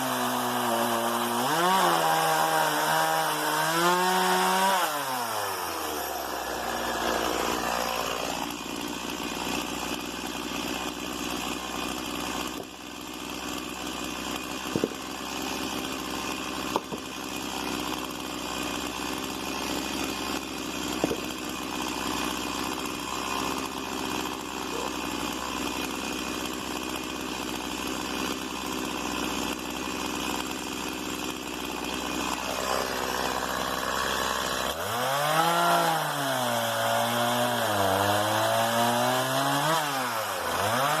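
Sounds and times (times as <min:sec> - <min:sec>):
chainsaw idling: 0:00.0 - 0:41.0
chainsaw revving: 0:00.0 - 0:41.0.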